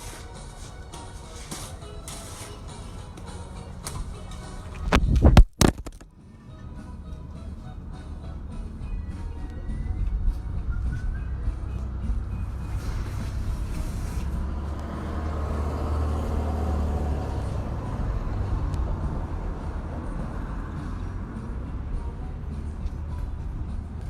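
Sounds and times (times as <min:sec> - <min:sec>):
low engine rumble: 0:00.0 - 0:05.4, 0:06.0 - 0:24.0.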